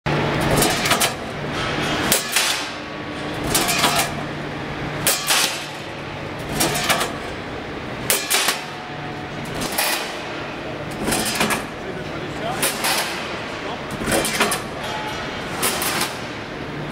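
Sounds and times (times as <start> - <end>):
guillotine shear cutting sheet metal: 0.3 - 4.2, 5.0 - 7.2, 8.1 - 8.8, 9.5 - 16.5.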